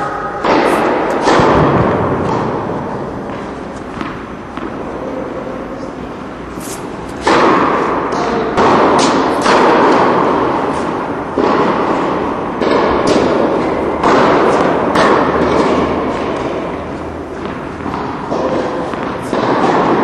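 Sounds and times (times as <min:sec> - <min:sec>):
rackets hitting tennis balls: 0:00.0 - 0:20.0.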